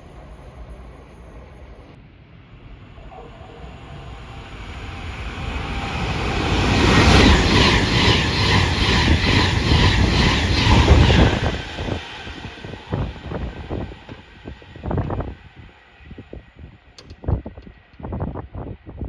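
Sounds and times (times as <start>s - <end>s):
train passing at speed: 0.0s - 16.9s.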